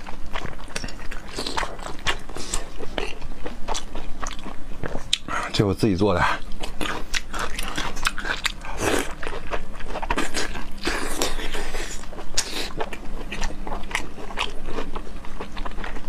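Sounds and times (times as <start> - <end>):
biting and chewing: 0.0 - 5.6, 6.3 - 16.0.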